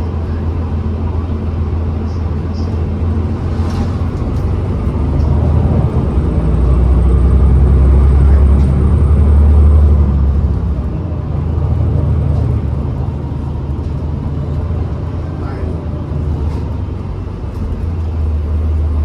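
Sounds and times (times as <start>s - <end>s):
bus cabin drone: 0.0s - 19.0s.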